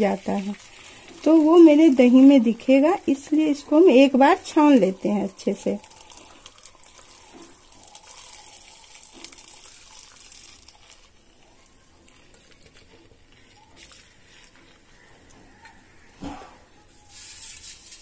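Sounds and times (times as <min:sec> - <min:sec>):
milk pouring into steel bowl: 0:00.0 - 0:16.1.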